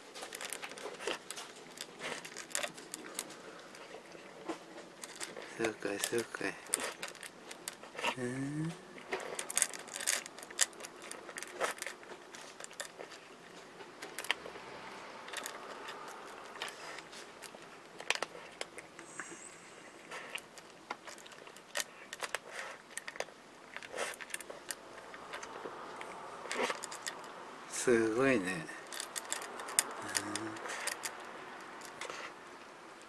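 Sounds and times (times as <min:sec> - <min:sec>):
cat chewing and lapping: 0:00.0 - 0:08.2, 0:08.8 - 0:27.6, 0:28.4 - 0:33.0.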